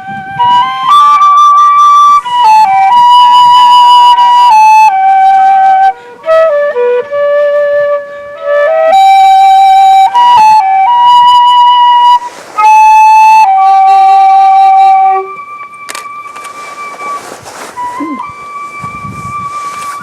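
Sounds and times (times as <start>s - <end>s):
solo flute melody: 0.0s - 20.0s.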